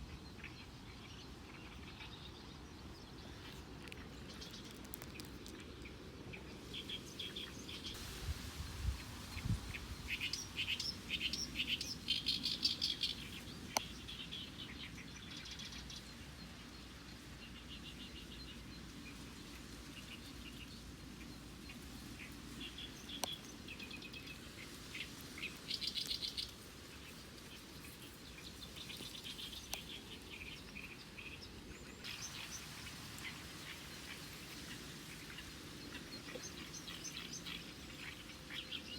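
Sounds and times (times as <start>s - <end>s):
small birds chirping: 0.0s - 8.0s, 8.8s - 38.9s
faint outdoor hiss: 0.0s - 38.9s.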